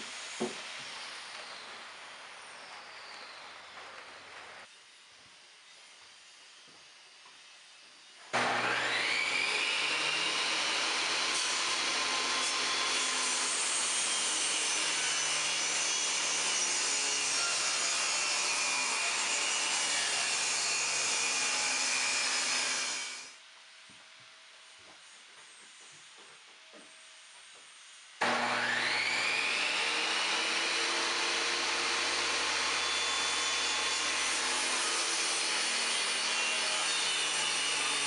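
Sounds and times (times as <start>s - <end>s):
table saw whining: 0.0s - 23.4s, 27.7s - 38.0s.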